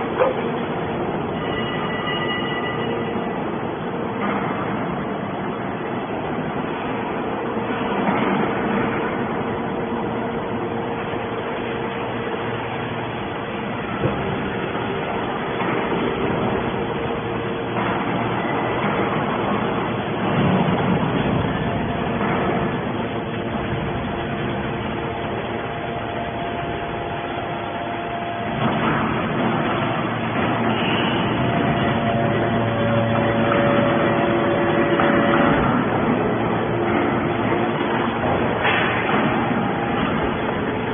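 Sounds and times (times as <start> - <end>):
baler machine hum and drone: 0.0 - 40.9
steady whine: 0.0 - 40.9.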